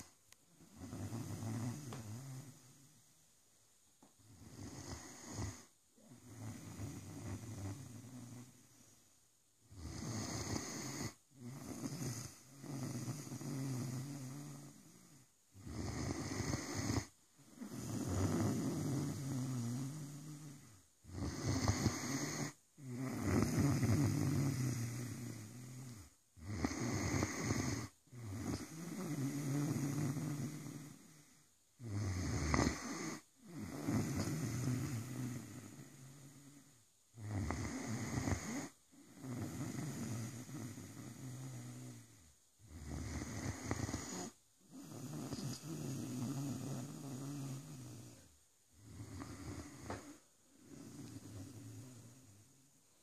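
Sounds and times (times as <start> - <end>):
dog snoring: 0.0 - 2.9, 4.2 - 8.7, 9.6 - 52.5.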